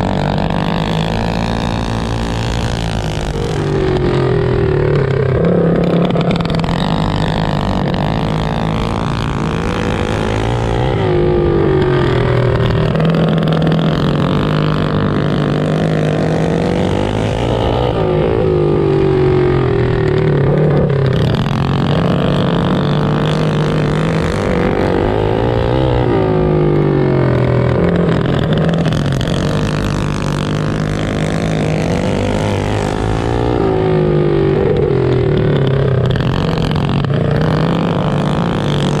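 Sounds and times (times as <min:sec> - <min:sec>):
mini bike engines revving: 0:00.0 - 0:39.0.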